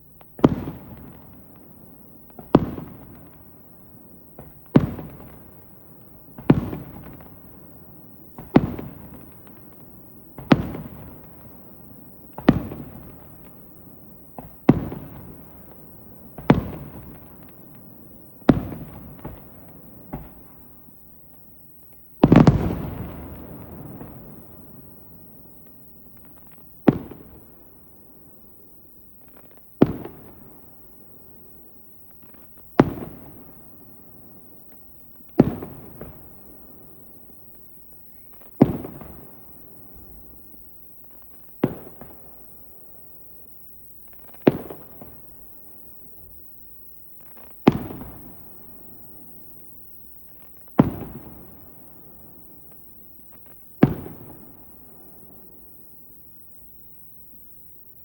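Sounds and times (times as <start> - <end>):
firework shells booming: 0.4 - 27.7, 32.1 - 37.4, 38.1 - 43.1, 44.0 - 46.4, 47.2 - 49.4, 50.3 - 55.6.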